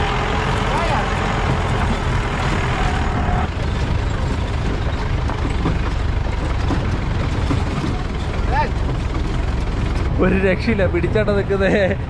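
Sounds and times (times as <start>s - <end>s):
rattles and knocks: 0.0s - 11.4s
engine rumbling under load: 0.0s - 12.0s.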